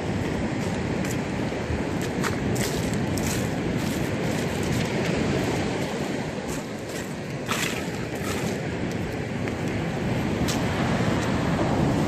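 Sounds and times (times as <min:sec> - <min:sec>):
sea surf: 0:00.0 - 0:12.0
wind on microphone: 0:00.0 - 0:12.0.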